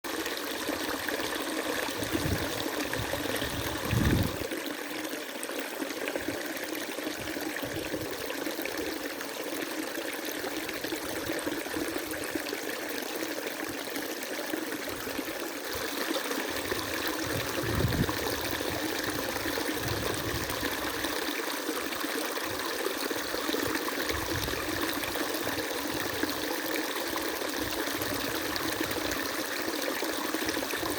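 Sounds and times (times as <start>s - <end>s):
river water flowing: 0.1s - 30.9s.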